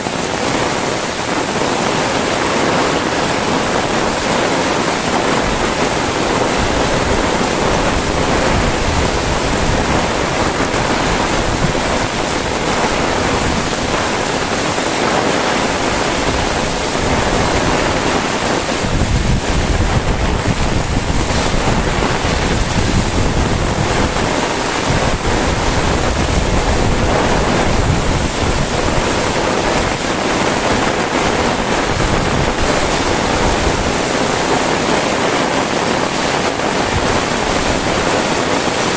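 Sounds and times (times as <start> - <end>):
heavy rain falling: 0.0 - 38.9
wind buffeting microphone: 0.0 - 38.9.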